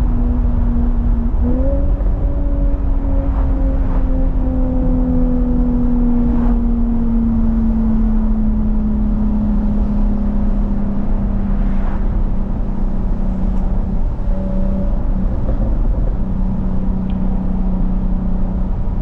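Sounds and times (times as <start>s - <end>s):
low road rumble: 0.0s - 19.0s.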